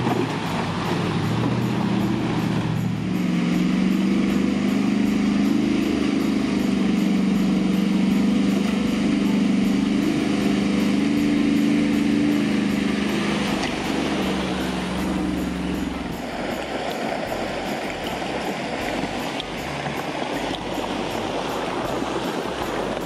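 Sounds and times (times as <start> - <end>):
off-road vehicle engine crawling: 0.0 - 23.0.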